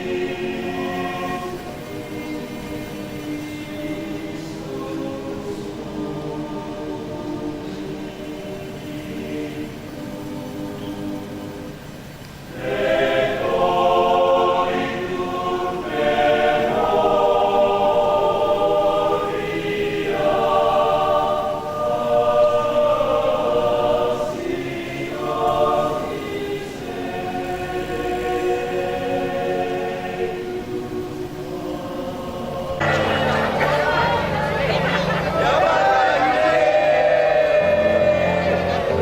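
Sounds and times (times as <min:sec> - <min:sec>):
church choir singing: 0:00.0 - 0:39.0.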